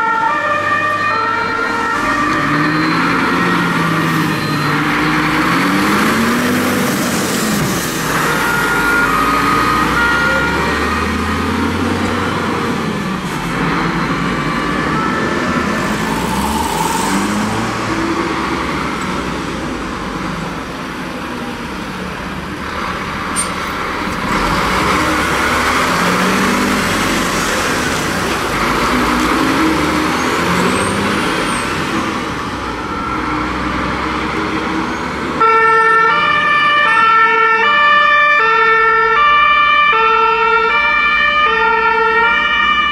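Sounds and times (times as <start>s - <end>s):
two-tone fire engine sirens: 0.0s - 21.8s, 24.2s - 42.9s
diesel truck engines rumbling: 0.0s - 42.9s.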